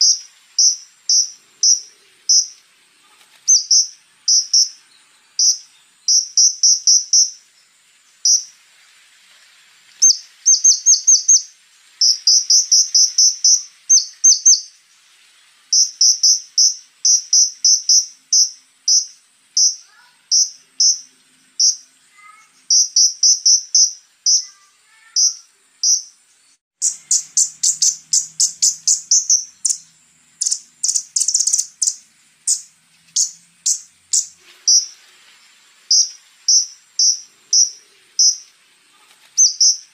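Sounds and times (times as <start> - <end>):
songbird singing high sharp notes: 0.0 - 2.6, 3.4 - 7.6, 8.2 - 8.6, 10.0 - 14.8, 15.7 - 26.2, 26.8 - 35.0, 35.9 - 38.5, 39.4 - 39.9
faint high insect trill: 0.0 - 39.9.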